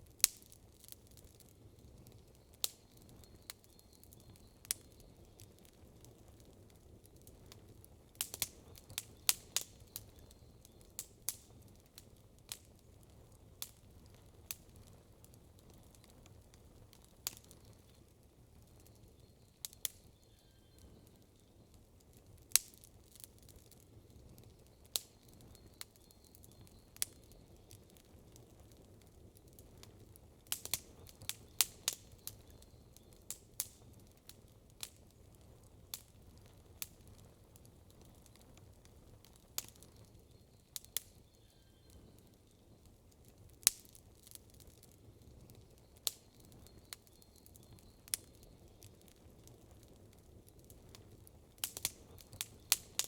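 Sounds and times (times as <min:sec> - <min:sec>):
campfire crackling and popping: 0:00.0 - 0:53.0
low steady hiss: 0:00.0 - 0:53.0.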